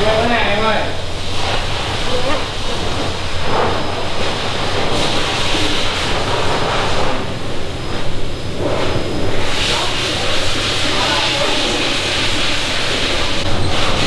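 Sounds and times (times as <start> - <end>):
loud rushing noise: 0.0 - 14.0
thin high whine: 0.0 - 14.0.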